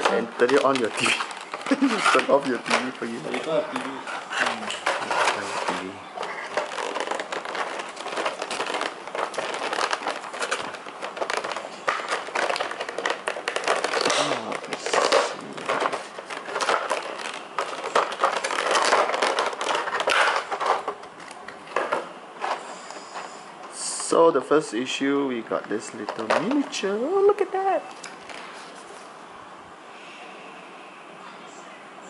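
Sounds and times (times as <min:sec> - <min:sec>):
plastic packaging crinkling: 0:00.0 - 0:22.7, 0:23.9 - 0:29.0.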